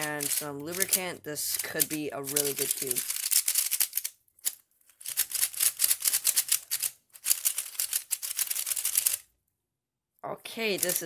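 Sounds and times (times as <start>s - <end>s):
plastic puzzle cube clicking: 0.0s - 9.3s, 10.7s - 11.0s.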